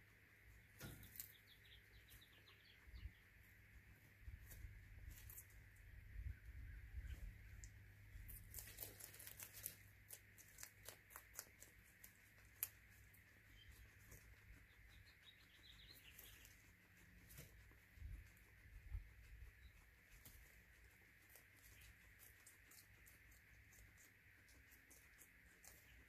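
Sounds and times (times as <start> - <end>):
guinea pigs chewing pellets: 0.0 - 26.0.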